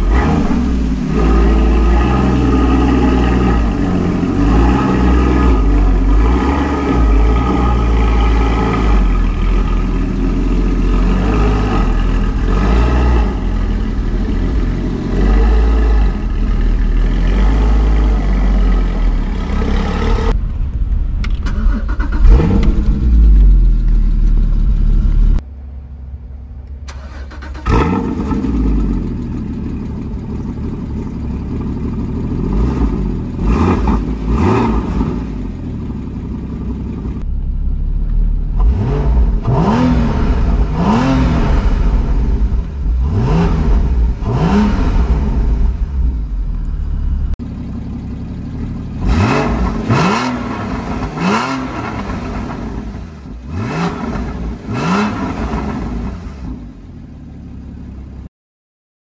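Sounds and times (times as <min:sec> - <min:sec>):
car engine idling and revving: 0:00.0 - 0:58.3.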